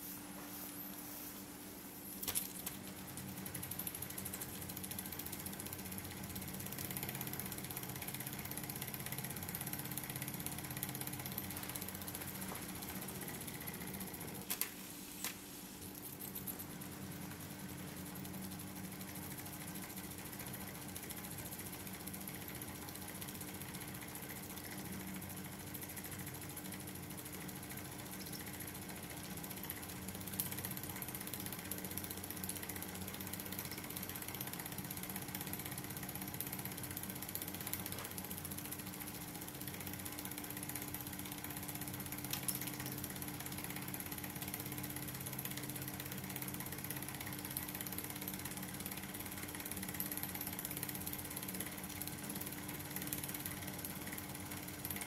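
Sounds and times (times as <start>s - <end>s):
miniature steam engine running: 2.9s - 14.4s, 16.3s - 55.0s.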